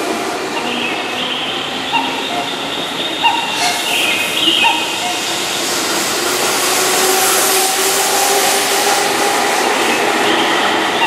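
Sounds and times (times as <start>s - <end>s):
train wheel and running noise: 0.0s - 11.0s.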